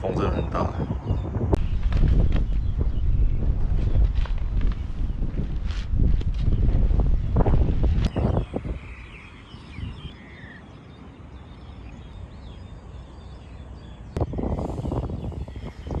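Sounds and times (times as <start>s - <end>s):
birds chirping: 0.0s - 5.4s, 6.4s - 16.0s
wind buffeting microphone: 0.0s - 16.0s.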